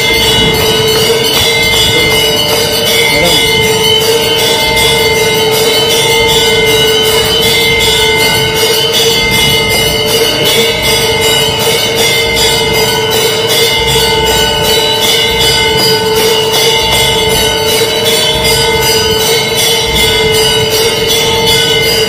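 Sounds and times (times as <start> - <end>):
temple bells clanging rapidly: 0.0 - 22.0.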